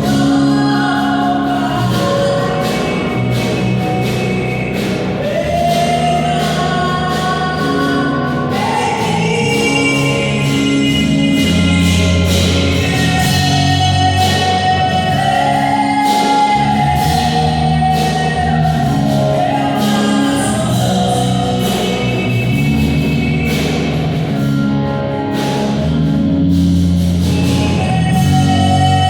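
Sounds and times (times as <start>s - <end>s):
person singing: 0.0s - 25.8s, 27.2s - 29.0s
instrumental accompaniment: 0.0s - 29.0s.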